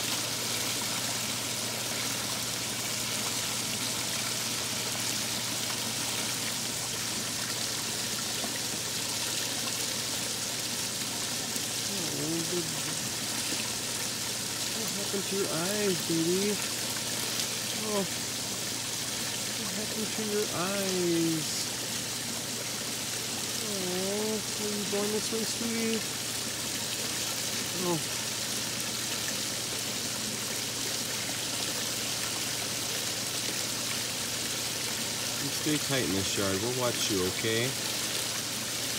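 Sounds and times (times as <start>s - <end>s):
running water hissing: 0.0s - 38.9s.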